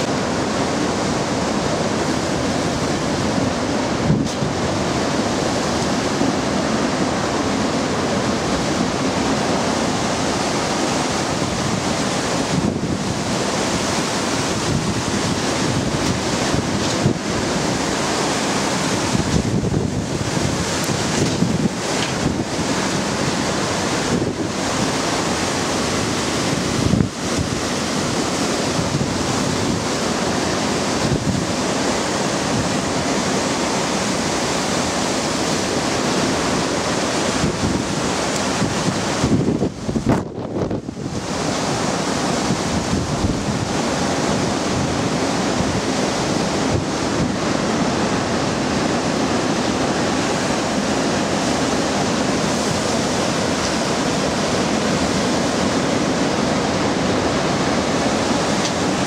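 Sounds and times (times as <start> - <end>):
rain: 0.0 - 59.0
wind buffeting microphone: 0.0 - 59.0
wind gusting through trees: 0.0 - 59.0.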